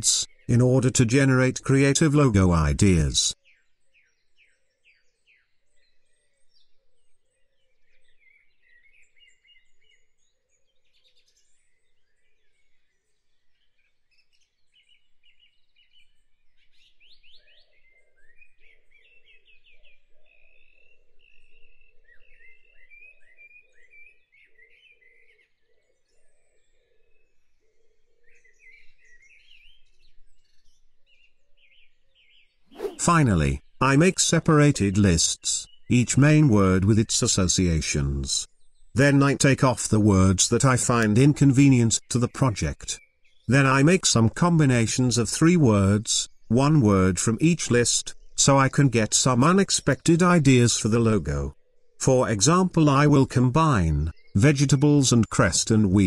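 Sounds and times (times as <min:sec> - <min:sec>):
faint birds chirping: 0:00.0 - 0:56.0.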